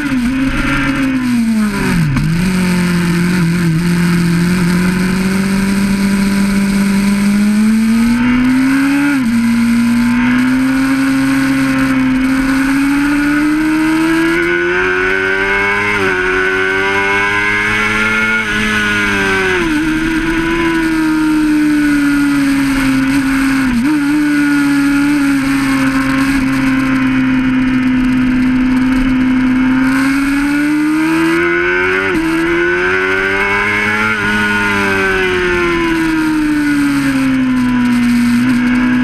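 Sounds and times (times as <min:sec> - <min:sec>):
motorcycle engine at high revs: 0:00.0 - 0:39.0.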